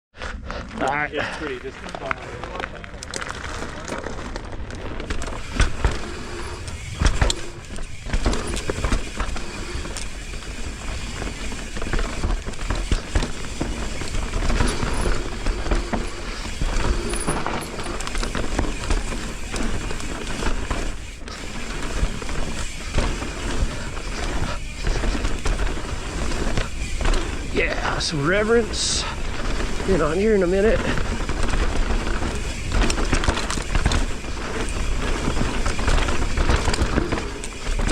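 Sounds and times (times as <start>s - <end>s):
bike rattling over bumps: 0.2s - 37.9s
bike tyres crunching on dirt: 0.2s - 37.9s.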